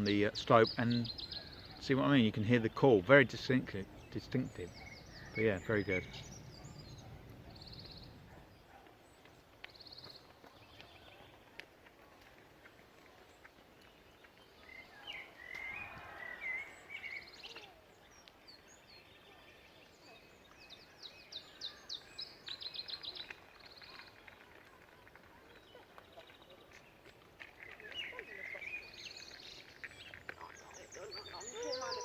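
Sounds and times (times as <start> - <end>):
low background noise: 0.0 - 32.0
songbirds singing faintly: 0.0 - 32.0.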